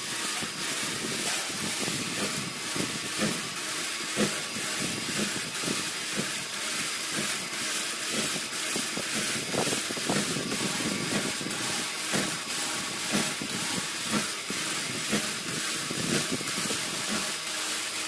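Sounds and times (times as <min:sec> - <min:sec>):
workshop machinery hissing: 0:00.0 - 0:18.0.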